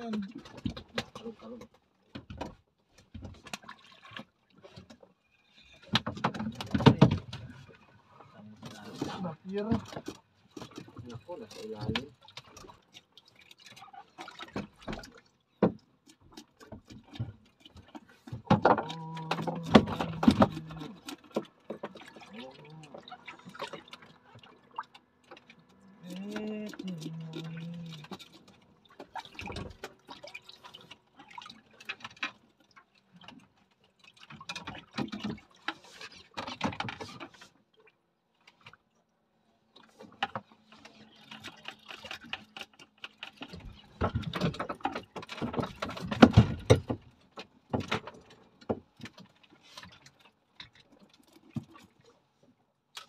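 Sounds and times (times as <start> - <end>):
water splashing against boat hull: 0.0 - 39.0, 39.6 - 53.0.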